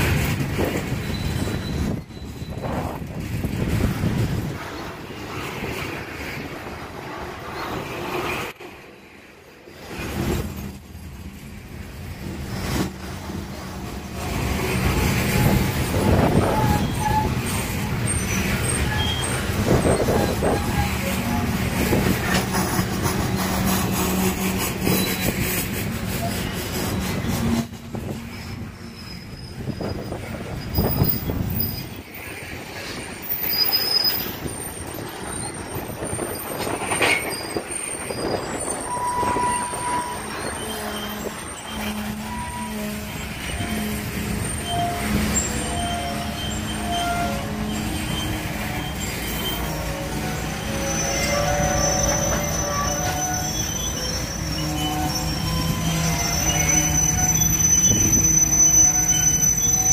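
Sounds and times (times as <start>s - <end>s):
wheel squeals: 0.0s - 4.1s, 12.2s - 59.9s
train wheels rumbling on rail: 0.0s - 59.9s
wheels clacking over rail joints: 9.7s - 58.6s.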